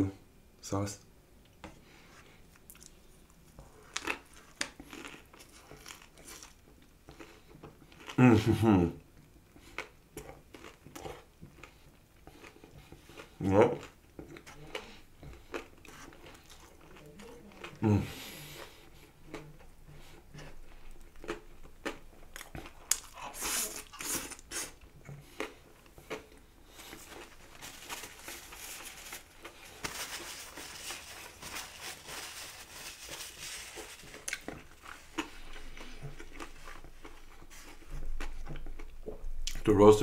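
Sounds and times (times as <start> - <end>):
crunchy biting and chewing: 2.6 - 8.2, 9.7 - 39.6.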